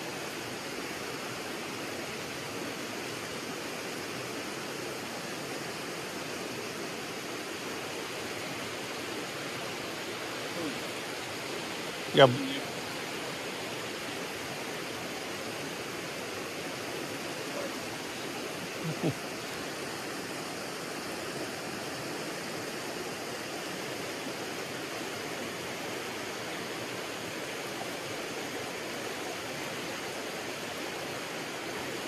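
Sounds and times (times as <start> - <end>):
stream pouring over rocks: 0.0 - 32.0.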